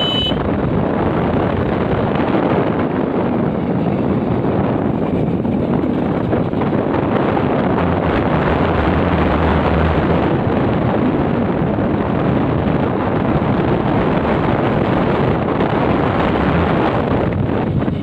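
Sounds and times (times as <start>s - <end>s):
motorbike engine rumble: 0.0s - 18.0s
road noise: 0.0s - 18.0s
wind buffeting microphone: 0.0s - 18.0s.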